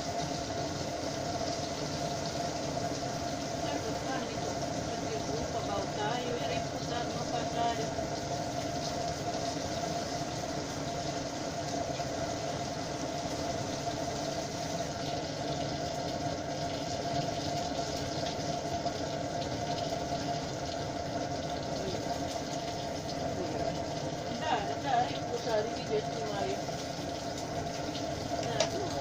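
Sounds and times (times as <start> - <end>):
constant hum: 0.0 - 29.0
fish sizzling in a pan: 0.0 - 29.0.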